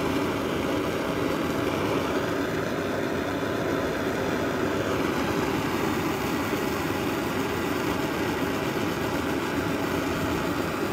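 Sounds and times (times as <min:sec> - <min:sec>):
camping stove burner rushing: 0:00.0 - 0:10.9.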